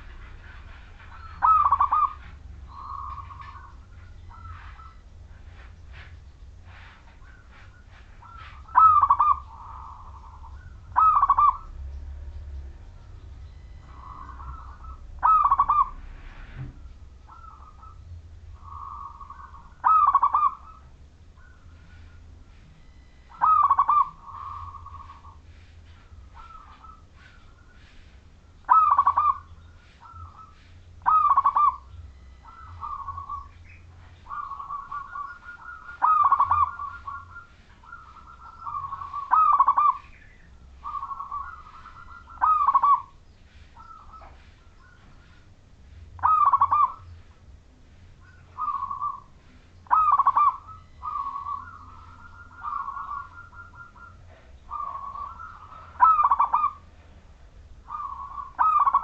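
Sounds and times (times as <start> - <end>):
dove cooing: 0.0 - 12.3, 13.0 - 59.0.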